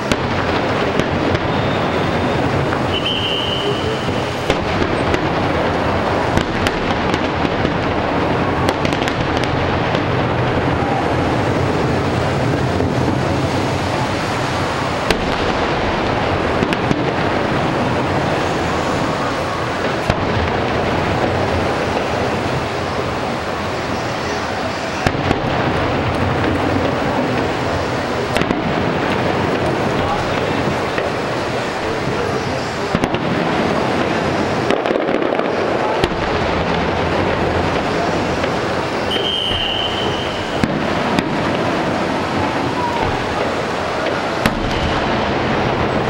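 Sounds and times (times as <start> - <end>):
fireworks booms and cracks: 0.0 - 46.0.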